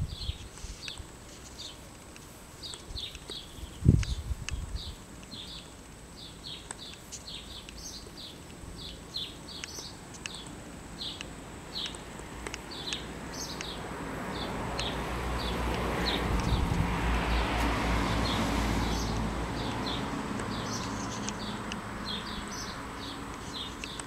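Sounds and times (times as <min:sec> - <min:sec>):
small bird chirping: 0:00.0 - 0:01.9, 0:02.6 - 0:16.8, 0:18.1 - 0:24.0.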